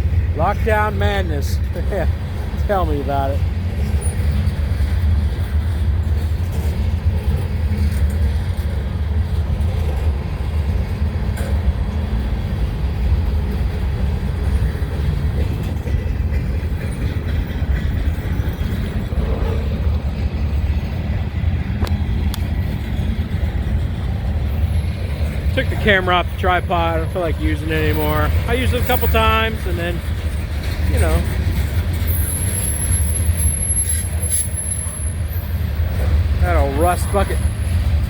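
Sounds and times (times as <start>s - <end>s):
freight train cars rolling past: 0.0s - 38.0s.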